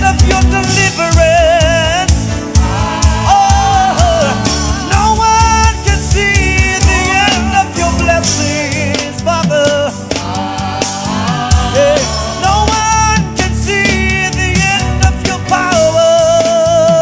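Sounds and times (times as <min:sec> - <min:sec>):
band playing steady beat: 0:00.0 - 0:17.0
person singing: 0:00.0 - 0:17.0.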